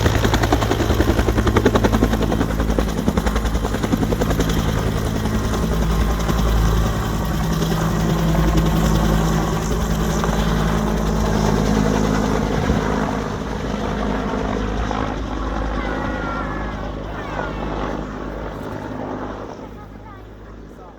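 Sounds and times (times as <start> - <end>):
helicopter rotor beating: 0.0 - 20.9.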